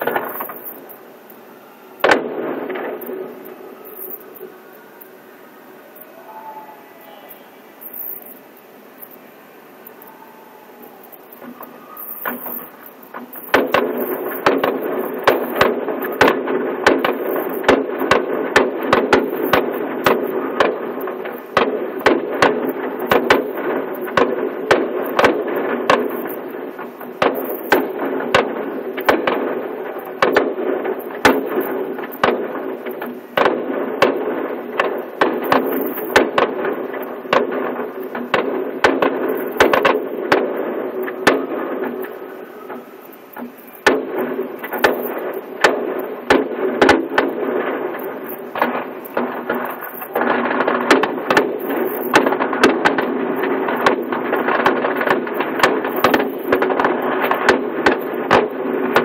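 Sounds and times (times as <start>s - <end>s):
continuous rumble: 0.0s - 59.0s
distant fireworks bangs: 0.0s - 59.0s.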